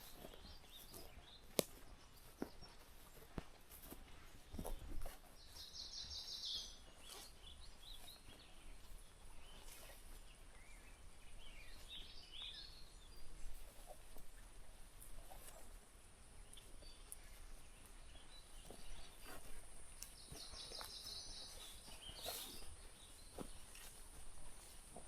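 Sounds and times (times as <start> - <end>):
birds calling: 0.0 - 15.8, 16.4 - 25.0.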